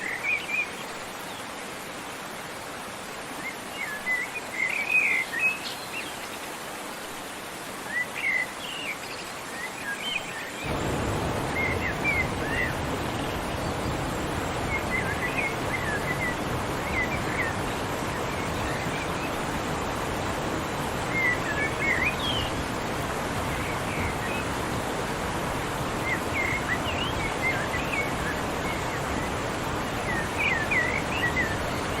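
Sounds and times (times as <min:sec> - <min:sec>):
running water rushing: 0:00.0 - 0:32.0.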